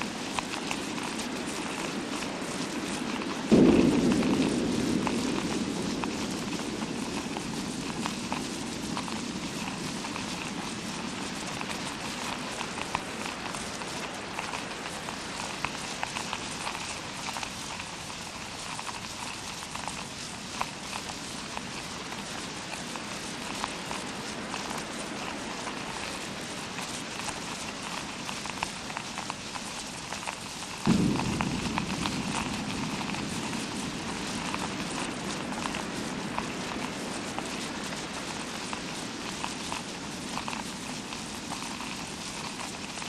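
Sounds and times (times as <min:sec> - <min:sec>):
artificial rain patter: 0:00.0 - 0:43.0.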